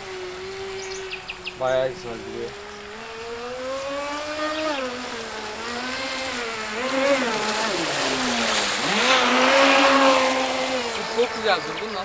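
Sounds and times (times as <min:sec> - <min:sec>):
electric boat motor whining: 0:00.0 - 0:12.0.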